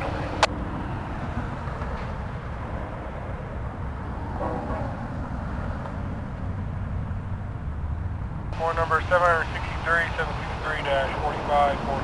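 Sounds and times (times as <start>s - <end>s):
diesel locomotive engine running: 0.0s - 12.0s
road traffic rumble: 0.0s - 12.0s.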